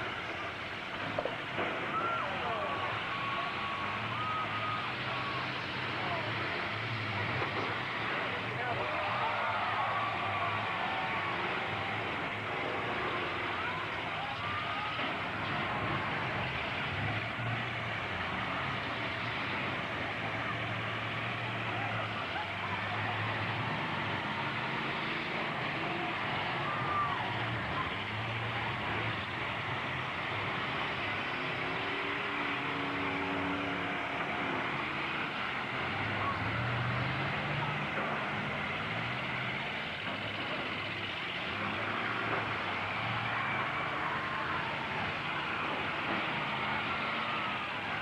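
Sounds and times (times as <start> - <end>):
truck engines running: 0.0 - 48.0.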